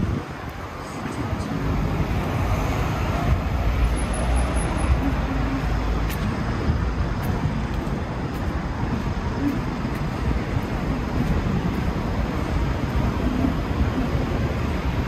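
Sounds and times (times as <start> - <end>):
rumble of street traffic: 0.0 - 15.0.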